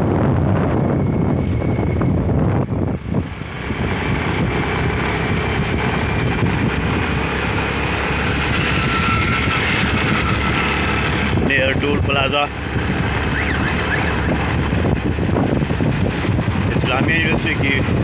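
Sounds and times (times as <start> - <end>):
road and wind noise on wet road: 0.0 - 18.0.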